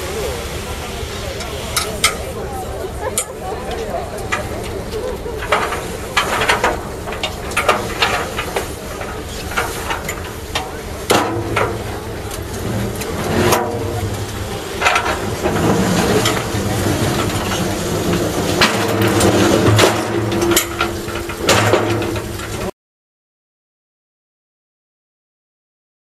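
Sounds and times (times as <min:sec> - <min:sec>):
metal gangway clanking: 0:00.0 - 0:22.7
ship engine hum: 0:00.0 - 0:22.7.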